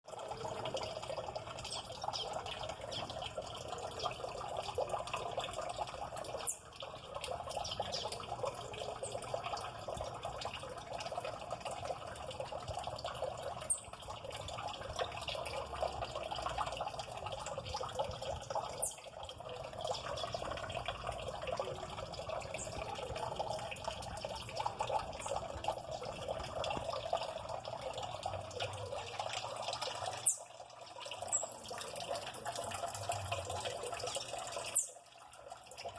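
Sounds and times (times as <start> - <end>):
water trickling: 0.0 - 35.9.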